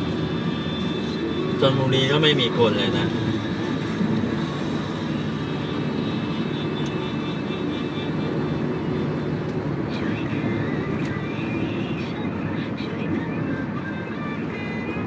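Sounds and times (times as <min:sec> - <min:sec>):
car cabin road and engine noise: 0:00.0 - 0:15.0.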